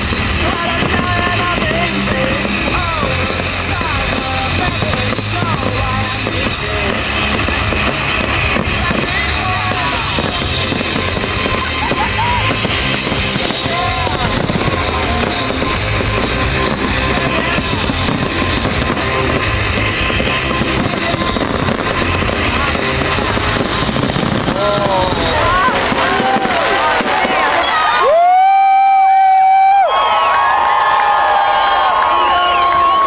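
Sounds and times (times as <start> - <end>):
rock music with singing and drums: 0.0 - 26.8
fireworks banging and crackling: 0.0 - 33.0.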